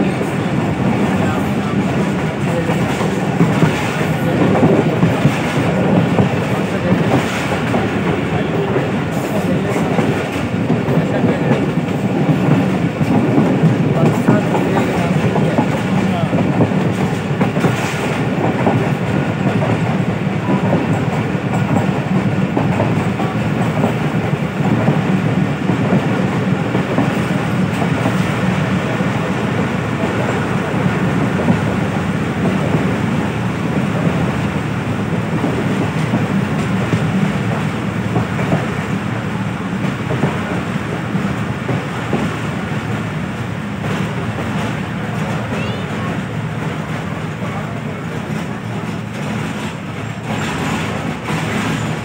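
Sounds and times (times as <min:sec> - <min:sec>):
clickety-clack over rail joints: 0:00.0 - 0:52.0
train wheels rumbling on track: 0:00.0 - 0:52.0.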